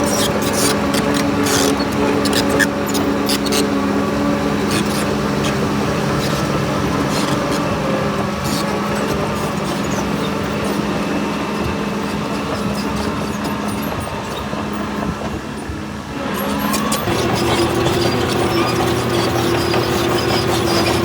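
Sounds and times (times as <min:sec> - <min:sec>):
diesel earthmoving machinery running: 0:00.0 - 0:21.0.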